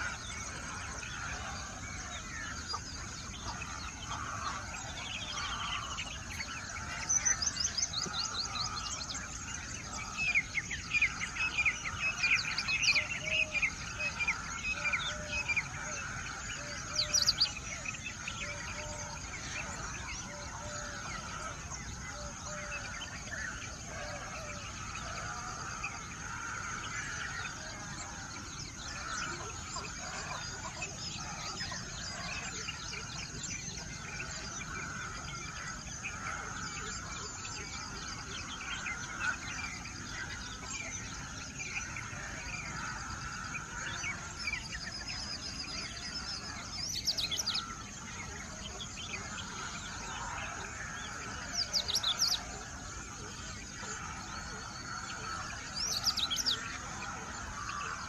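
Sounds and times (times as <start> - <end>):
flock of birds chirping: 0.0 - 58.0.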